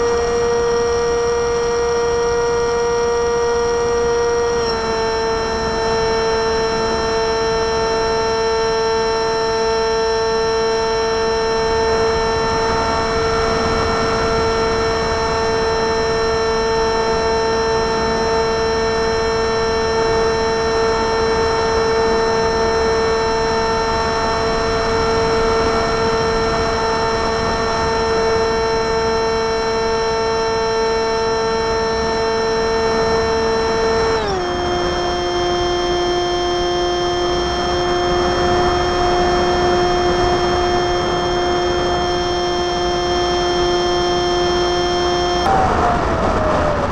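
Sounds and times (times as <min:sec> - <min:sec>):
model aircraft motor whine: 0:00.0 - 0:46.9.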